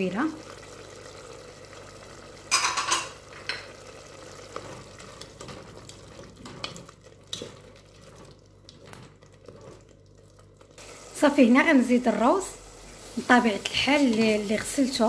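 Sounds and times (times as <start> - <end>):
food sizzling in a pot: 0.0 - 7.9, 10.7 - 15.0.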